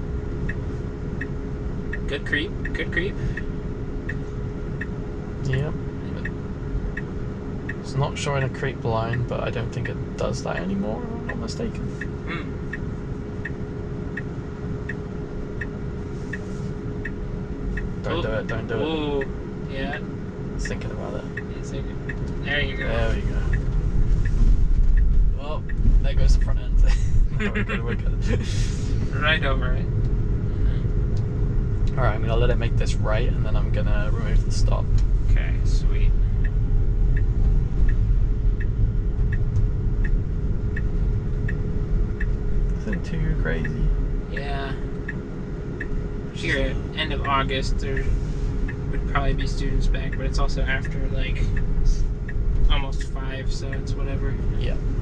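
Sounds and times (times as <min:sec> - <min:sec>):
car cabin hum: 0:00.0 - 0:55.0
road and tyre rumble: 0:00.0 - 0:55.0
car turn signal ticking: 0:00.4 - 0:26.6, 0:33.4 - 0:54.8.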